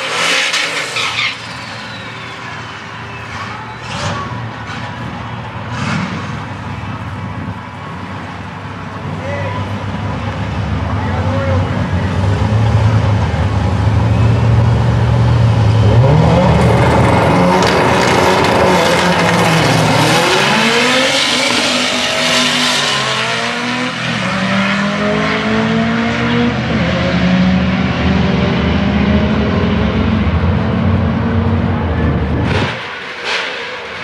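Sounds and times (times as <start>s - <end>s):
racing car engines accelerating: 0.0s - 34.0s.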